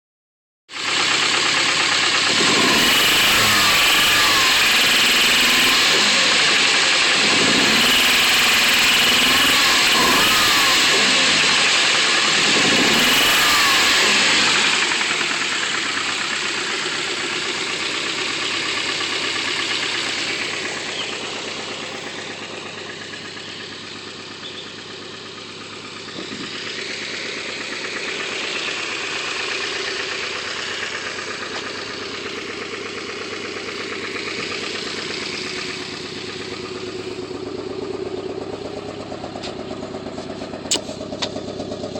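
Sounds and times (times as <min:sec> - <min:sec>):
car engine revving and idling: 0:00.8 - 0:41.9.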